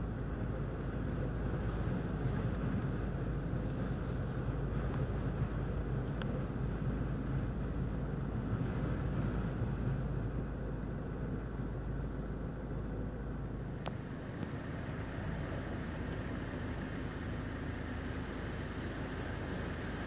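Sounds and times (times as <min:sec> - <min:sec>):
wind buffeting car: 0:00.0 - 0:20.0.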